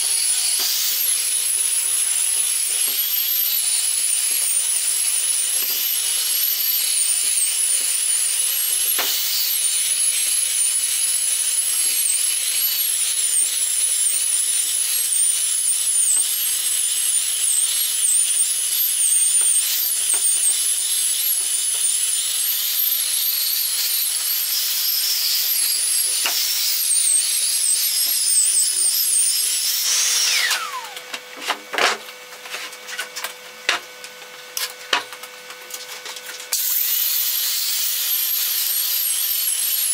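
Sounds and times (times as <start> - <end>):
belt sander on wood: 0.0 - 33.9, 36.4 - 39.9.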